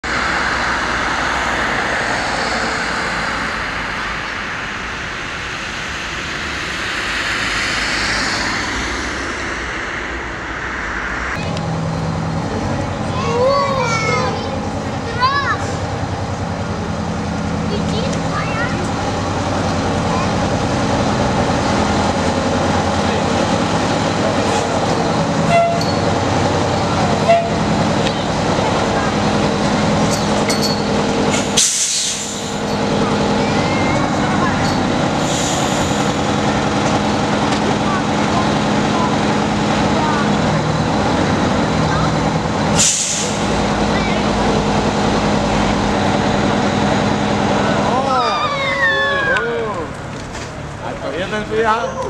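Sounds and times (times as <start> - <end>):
road traffic passing: 0.0 - 52.0
truck diesel engine running: 0.0 - 52.0.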